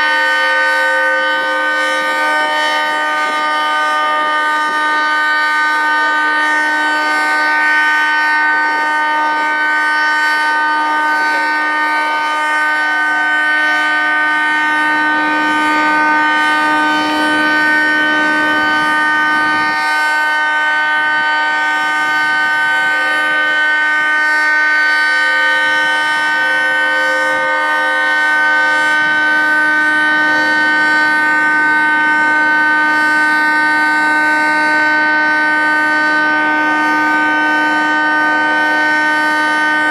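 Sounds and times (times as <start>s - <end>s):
warning siren steady chord: 0.0s - 39.9s.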